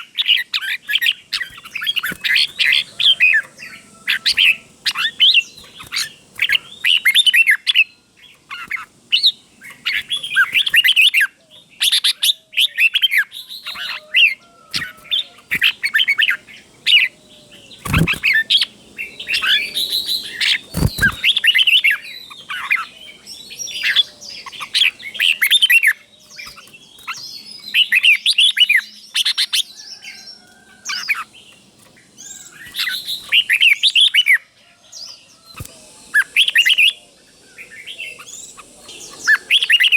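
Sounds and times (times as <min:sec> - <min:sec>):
bulbul singing whistled phrases: 0:00.0 - 0:31.3, 0:35.5 - 0:39.9.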